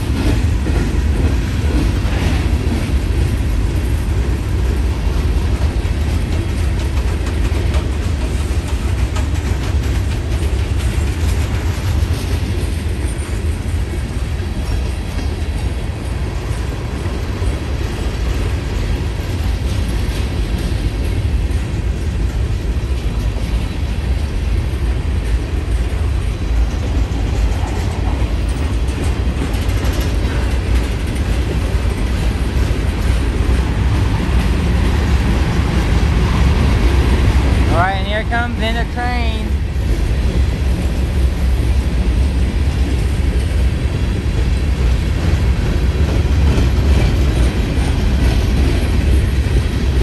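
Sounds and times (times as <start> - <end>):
freight train wheels rumbling on rail: 0.0 - 50.0.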